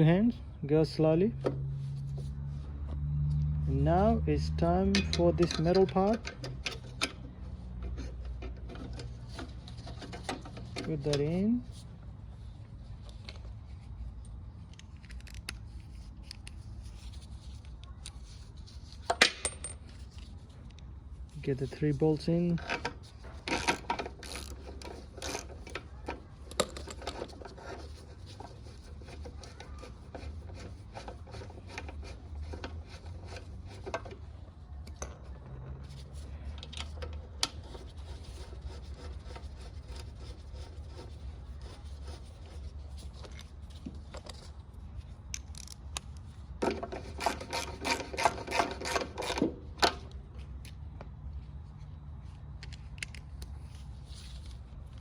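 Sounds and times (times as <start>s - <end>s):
small metal clicks and rubs: 4.6s - 12.0s, 12.6s - 50.8s, 51.6s - 55.0s.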